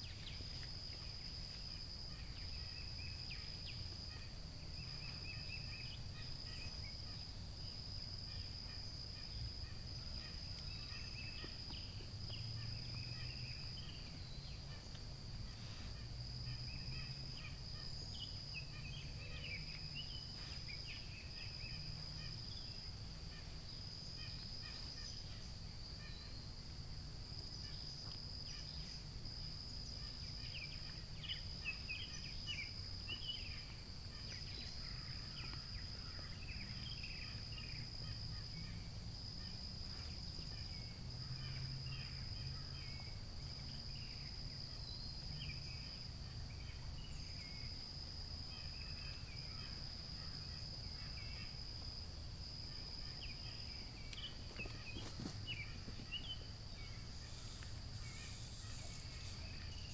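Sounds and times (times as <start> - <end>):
insect chorus trilling: 0.0 - 59.9.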